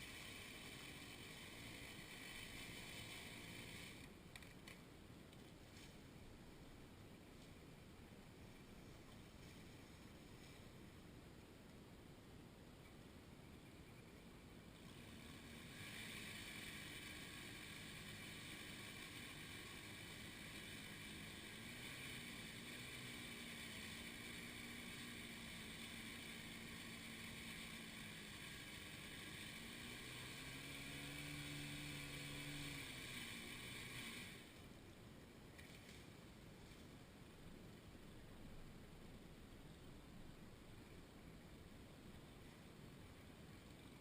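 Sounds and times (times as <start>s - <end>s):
faint engine running: 0.0s - 4.8s, 8.3s - 11.0s, 12.9s - 44.0s
steady hiss: 0.0s - 44.0s.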